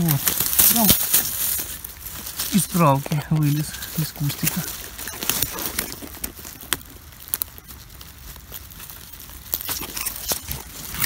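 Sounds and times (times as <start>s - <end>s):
leaves and twigs crackling: 0.0s - 11.0s
twigs snapping: 0.0s - 11.0s.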